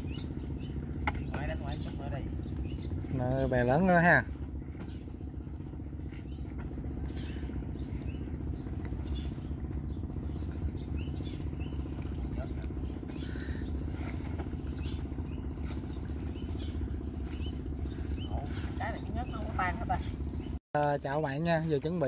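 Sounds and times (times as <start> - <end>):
engine idling: 0.0 - 22.0
high chirps of birds or insects: 0.0 - 22.0.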